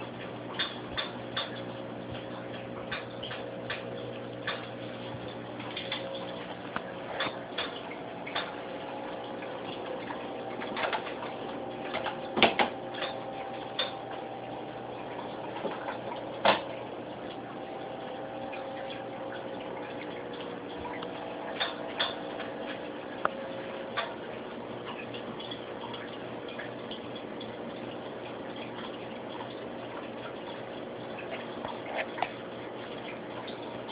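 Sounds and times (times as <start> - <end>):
aquarium equipment humming: 0.0 - 33.9.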